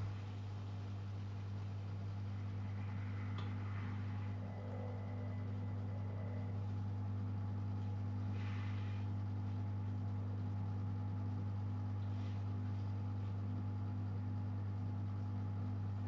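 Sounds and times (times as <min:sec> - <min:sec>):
washer-dryer humming: 0:00.0 - 0:16.0.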